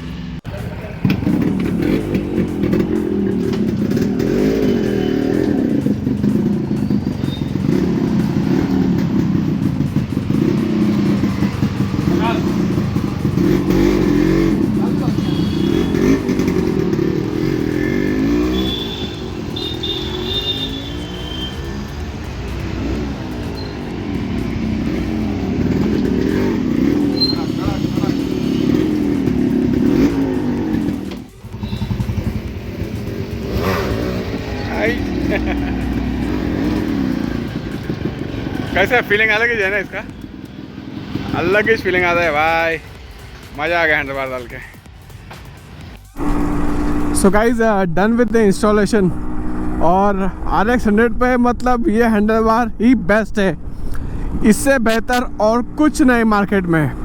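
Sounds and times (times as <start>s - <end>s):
two-stroke motorcycle engine revving: 0.0s - 44.5s, 46.0s - 51.0s, 54.1s - 57.0s.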